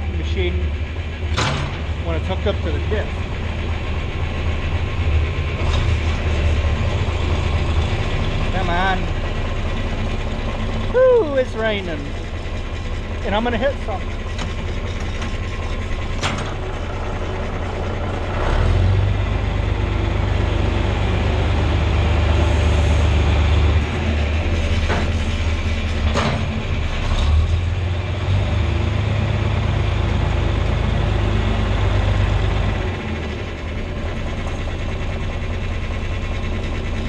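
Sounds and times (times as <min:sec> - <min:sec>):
tractor engine under load: 0:00.0 - 0:37.0.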